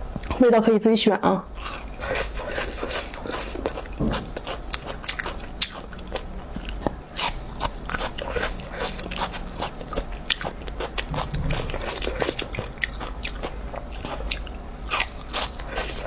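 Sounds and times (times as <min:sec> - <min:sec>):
chewing crunchy food: 0:01.5 - 0:16.0.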